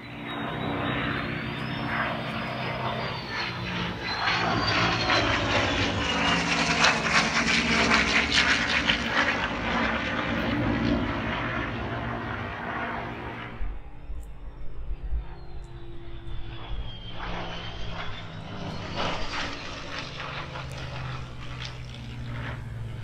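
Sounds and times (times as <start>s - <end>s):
high jet whine dropping in pitch: 0.0s - 23.0s
jet engine roar: 0.0s - 23.0s.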